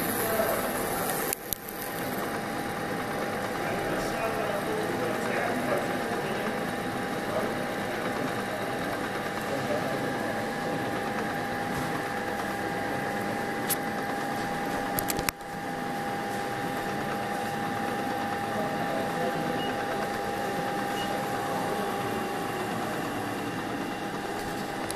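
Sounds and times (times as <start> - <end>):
milling machine spindle whine: 0.0 - 24.9.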